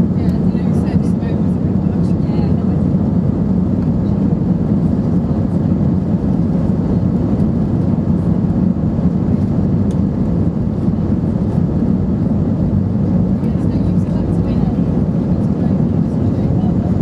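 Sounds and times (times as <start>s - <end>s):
jet engine low rumble: 0.0s - 17.0s.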